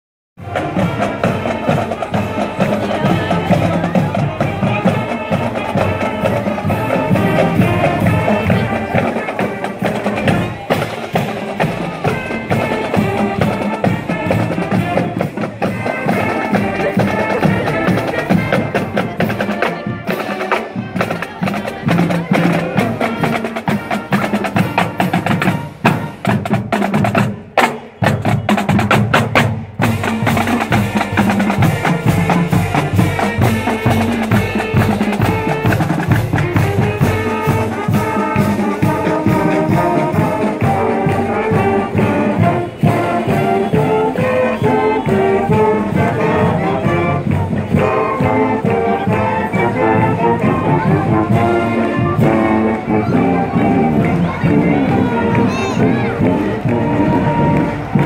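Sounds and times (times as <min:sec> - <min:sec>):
marching band playing: 0:00.4 - 0:58.0.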